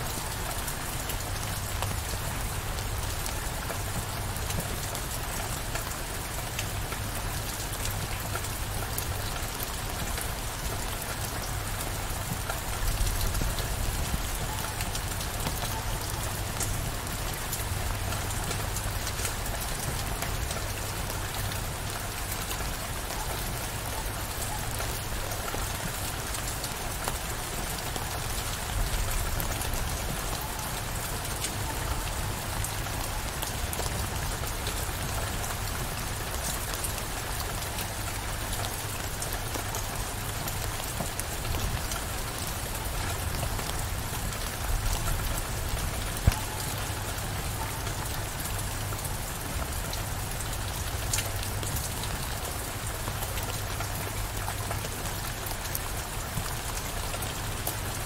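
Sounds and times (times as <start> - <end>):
heavy rain downpour: 0.0 - 58.0.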